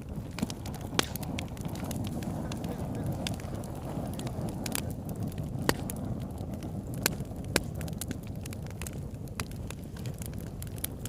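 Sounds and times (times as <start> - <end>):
campfire flames rushing: 0.0 - 11.0
fire crackling and popping: 0.0 - 11.0.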